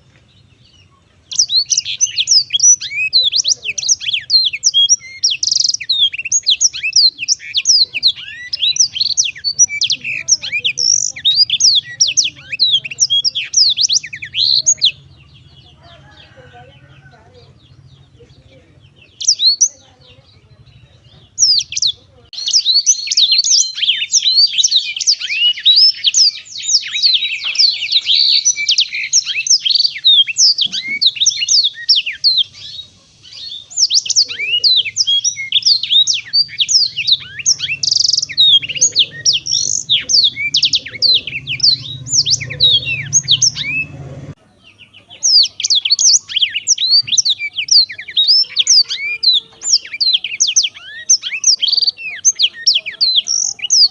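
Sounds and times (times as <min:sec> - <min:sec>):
bird singing twittering song: 0:00.0 - 0:53.9.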